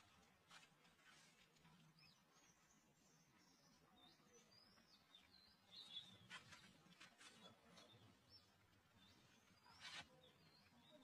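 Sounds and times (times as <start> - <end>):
faint bird chirps and whistles: 2.0 - 11.0.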